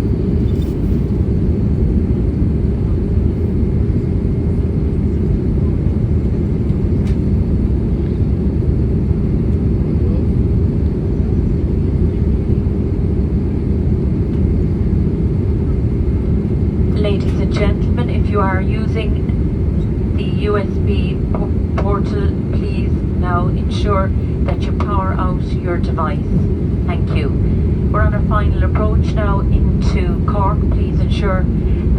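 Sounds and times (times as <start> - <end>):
airplane engines rumbling in cabin: 0.0 - 31.9.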